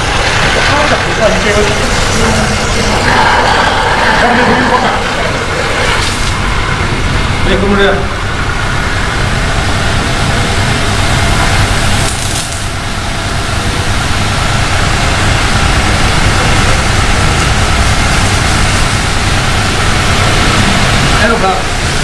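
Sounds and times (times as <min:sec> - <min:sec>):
pressure pump running: 0:00.0 - 0:22.0
water jet hissing: 0:00.0 - 0:22.0.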